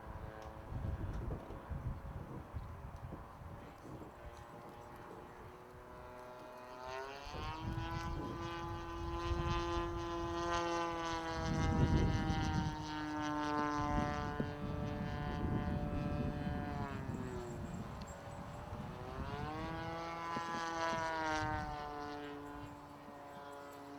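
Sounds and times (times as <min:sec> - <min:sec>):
model airplane engine and propeller: 0:00.0 - 0:23.9.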